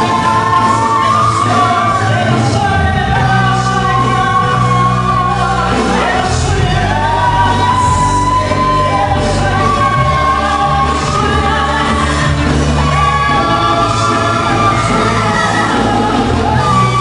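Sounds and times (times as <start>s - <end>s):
gospel band with singing: 0.0s - 17.0s.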